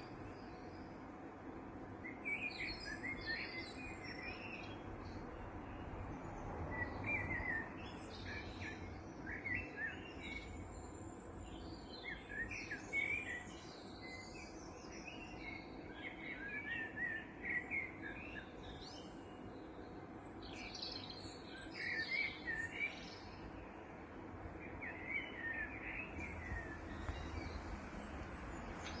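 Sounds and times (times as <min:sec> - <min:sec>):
low background noise: 0:00.0 - 0:29.0
birds chirping: 0:01.8 - 0:29.0.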